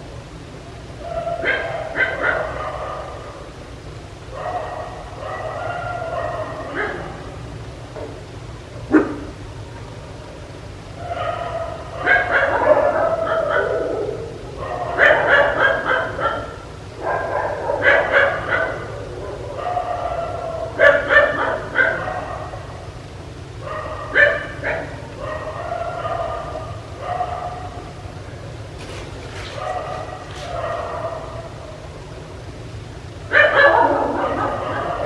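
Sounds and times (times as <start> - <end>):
dog barking: 1.0 - 3.6, 4.3 - 7.6, 8.8 - 9.4, 11.0 - 28.2, 28.8 - 32.2, 33.2 - 35.0.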